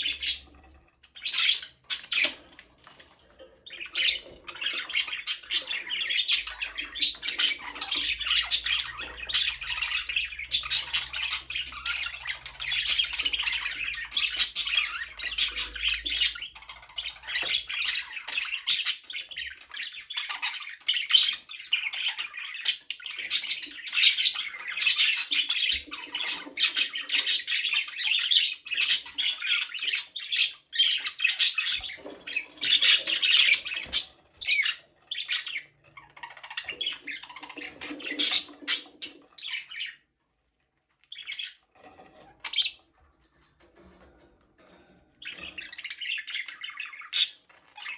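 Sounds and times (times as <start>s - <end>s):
budgerigars chirping and squawking: 0.0s - 47.9s.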